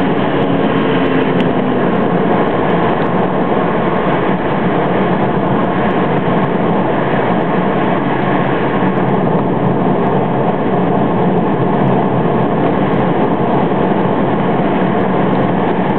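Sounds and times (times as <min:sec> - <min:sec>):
tyres rumbling on asphalt: 0:00.0 - 0:15.9
wind noise in car cabin: 0:00.0 - 0:15.9.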